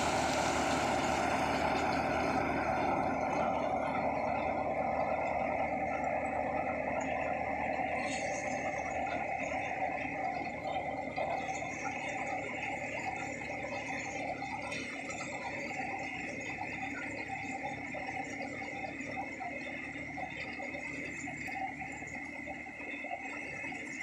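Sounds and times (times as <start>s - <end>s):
high machine whine: 0.0s - 24.0s
thresher mechanical hum: 0.0s - 24.0s.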